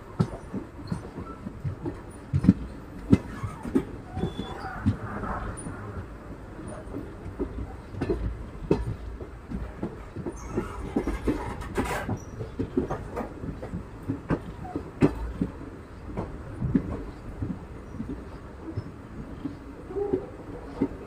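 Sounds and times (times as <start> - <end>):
train low rumble: 0.0 - 21.0
train wheels clacking over joints: 0.0 - 21.0.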